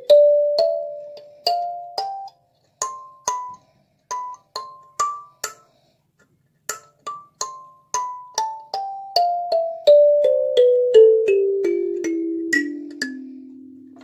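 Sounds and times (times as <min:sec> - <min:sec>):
kalimba notes: 0:00.0 - 0:05.6, 0:07.1 - 0:14.0.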